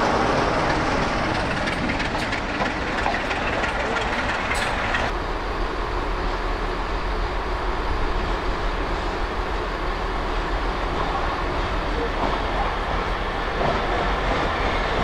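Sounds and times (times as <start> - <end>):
train wheels on track: 0.0 - 15.0.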